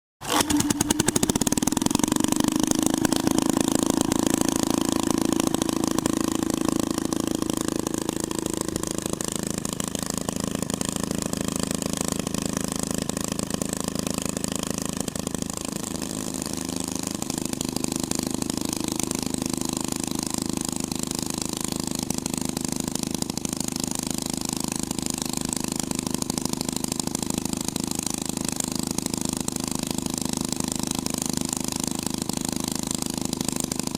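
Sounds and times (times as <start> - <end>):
hot rod engine idling: 0.3 - 33.9.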